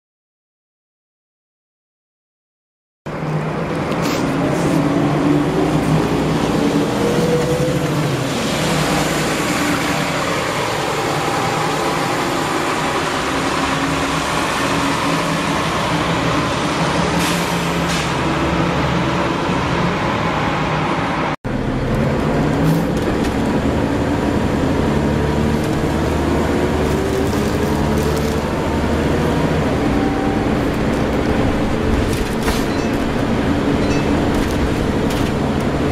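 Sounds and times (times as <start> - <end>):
diesel bus engine running: 3.1 - 35.9.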